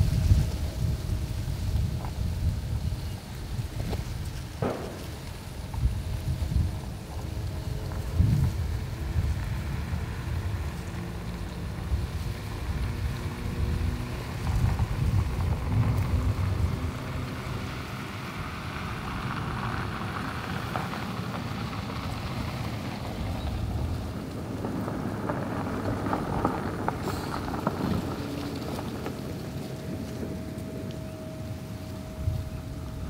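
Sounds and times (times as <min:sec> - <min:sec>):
wind blowing in gusts: 0:00.0 - 0:33.0
wind rumble on microphone: 0:00.0 - 0:33.0.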